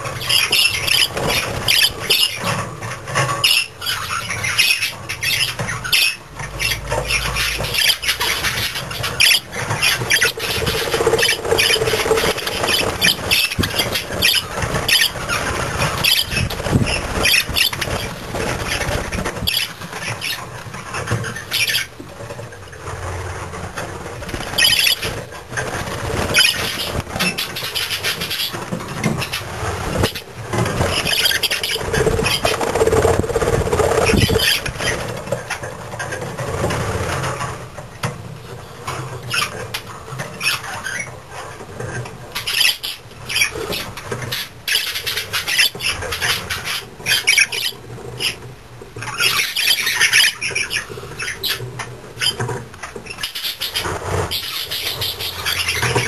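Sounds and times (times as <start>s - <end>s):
bird chicks chirping and squawking: 0.0s - 56.0s.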